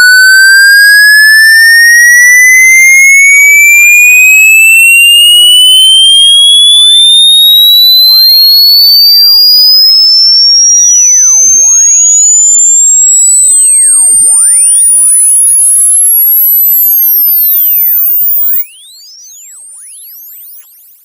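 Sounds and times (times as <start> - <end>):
electronic tone rising in pitch: 0.0 - 21.0.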